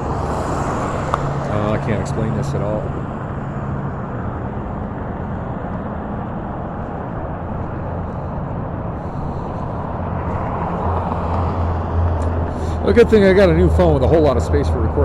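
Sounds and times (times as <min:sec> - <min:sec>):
scooter wheel and road noise: 0:00.0 - 0:15.0.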